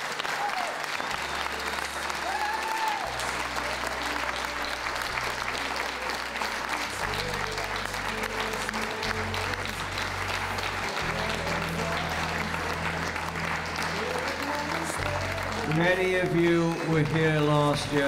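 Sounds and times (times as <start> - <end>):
audience applauding: 0.0 - 18.0
background music with bass line: 3.1 - 18.0.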